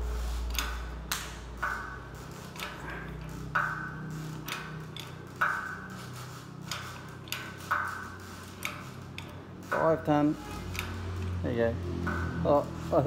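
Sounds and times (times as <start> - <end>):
sharp metallic clicks: 0.0 - 13.0
steady low hum: 0.0 - 13.0.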